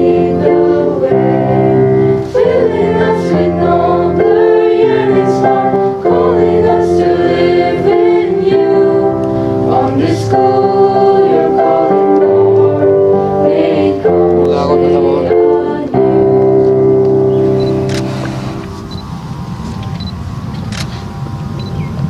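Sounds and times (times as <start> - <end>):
choir singing a hymn: 0.0 - 18.9
keyboard accompaniment: 0.0 - 22.0.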